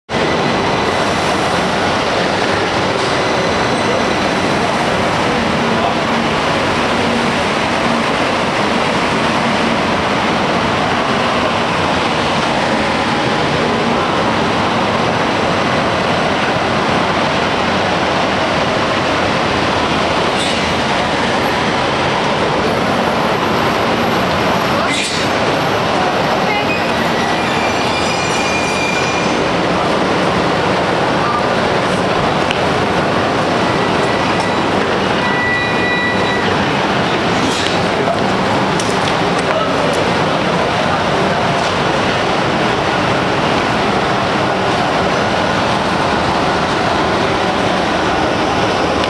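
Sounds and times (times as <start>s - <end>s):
electric train rushing past: 0.1s - 49.0s.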